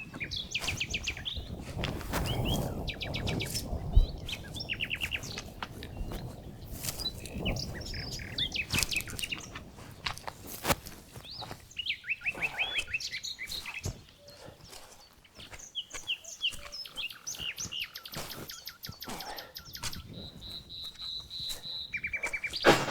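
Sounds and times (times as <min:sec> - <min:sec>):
songbirds chirping and singing: 0:00.0 - 0:22.9.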